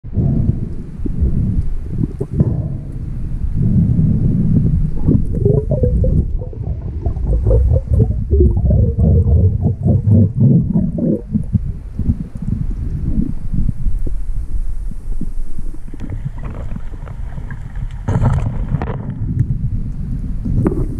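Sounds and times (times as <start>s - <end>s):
bubbling gurgles: 0.0s - 20.9s
underwater rumble: 0.0s - 20.9s.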